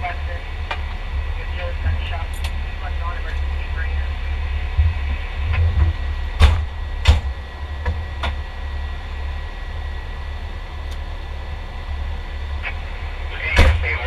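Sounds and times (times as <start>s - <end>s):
fire engine idling: 0.0s - 14.0s.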